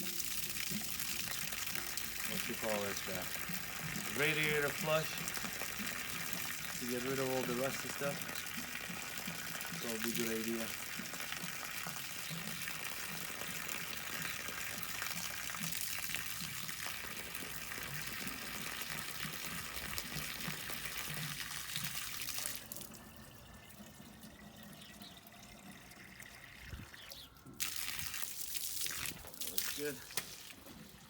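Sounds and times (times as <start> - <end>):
faint water trickle: 0.0 - 31.0
water pouring into radiator: 0.0 - 31.0.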